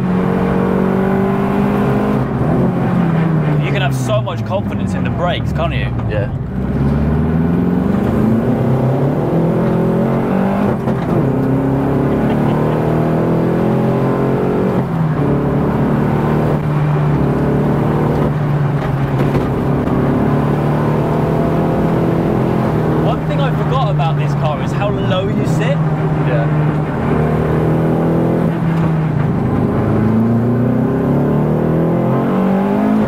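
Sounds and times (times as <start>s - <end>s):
race car engine accelerating: 0.0s - 33.0s.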